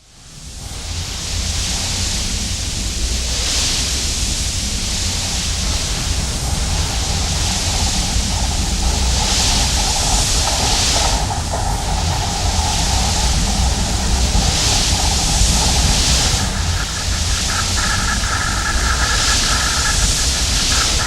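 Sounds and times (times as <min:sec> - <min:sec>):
faint droning hum: 0:00.2 - 0:21.0
deep low rumble: 0:00.4 - 0:21.0
rushing hiss: 0:00.4 - 0:21.0.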